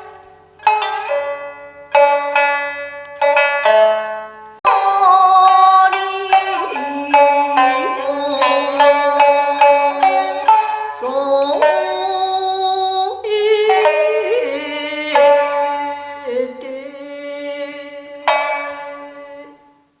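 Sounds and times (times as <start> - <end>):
shamisen being plucked: 0.0 - 20.0.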